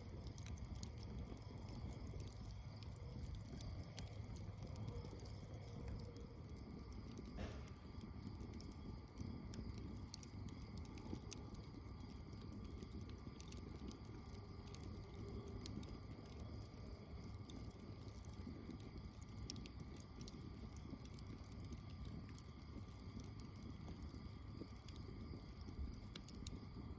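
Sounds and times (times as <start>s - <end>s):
campfire crackling: 0.0s - 26.9s.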